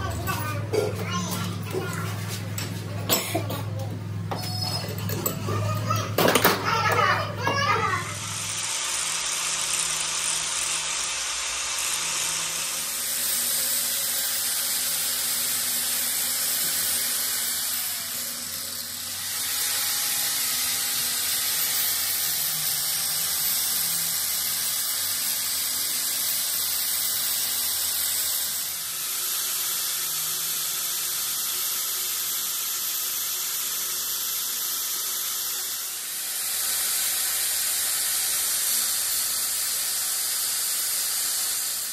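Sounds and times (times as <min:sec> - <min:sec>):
angle grinder grinding steel: 0:00.0 - 0:41.9.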